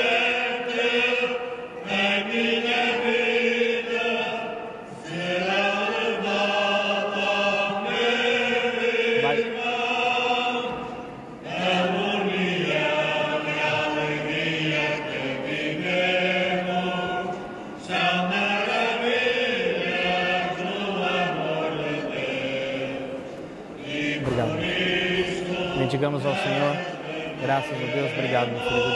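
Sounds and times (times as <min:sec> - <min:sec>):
voices singing a hymn: 0:00.0 - 0:28.9.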